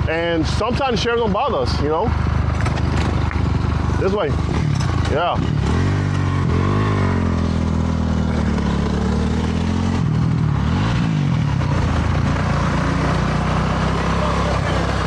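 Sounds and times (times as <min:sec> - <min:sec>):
dirt bike engine running: 0:00.1 - 0:15.0.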